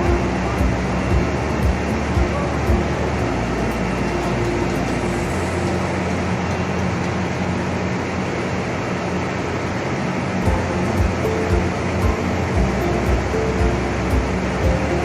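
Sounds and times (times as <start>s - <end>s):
constant low hum: 0.0s - 15.0s
mill machinery running: 0.0s - 15.0s.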